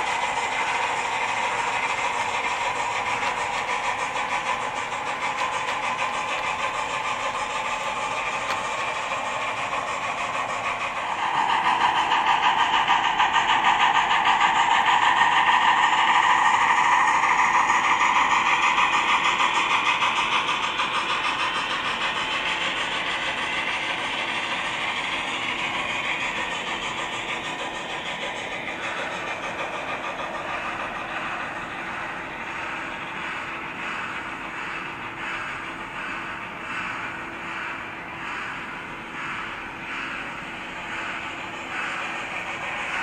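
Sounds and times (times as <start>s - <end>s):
model steam locomotive sounds: 0.0s - 43.0s
model train wheels on track: 0.0s - 43.0s.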